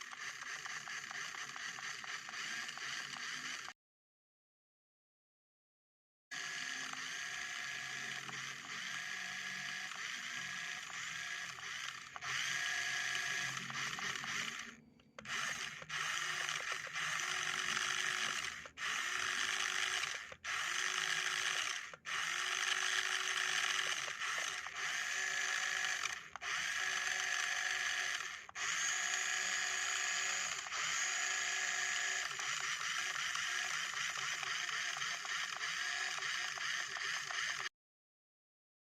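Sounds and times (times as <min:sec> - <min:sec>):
electric motor and gears whirring: 0:00.0 - 0:03.8, 0:06.3 - 0:37.7.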